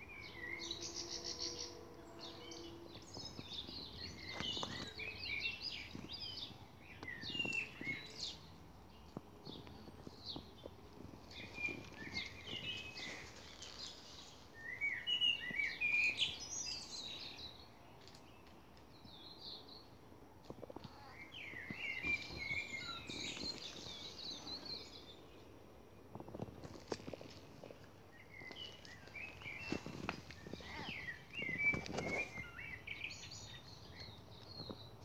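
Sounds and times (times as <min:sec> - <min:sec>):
songbirds chirping and warbling: 0:00.0 - 0:35.0.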